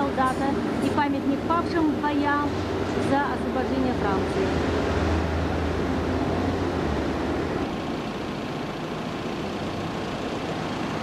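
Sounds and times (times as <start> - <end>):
traffic noise: 0.0 - 11.0
vehicle engine rumble: 0.0 - 11.0.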